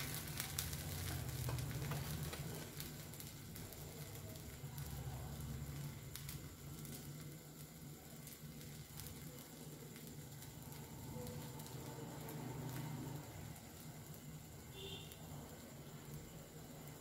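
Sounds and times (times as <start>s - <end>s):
batter sizzling in oil: 0.0s - 17.0s
small crackles: 0.0s - 17.0s.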